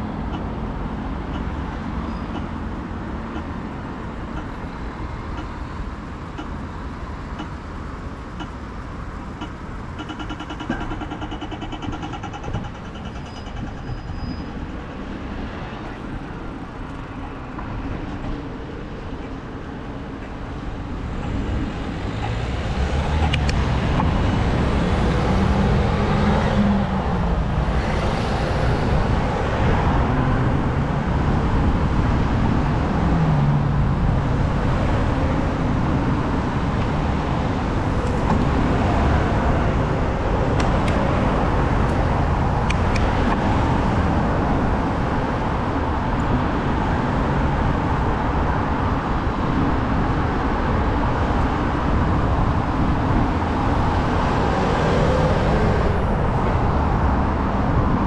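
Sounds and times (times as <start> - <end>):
city street traffic: 0.0 - 58.0.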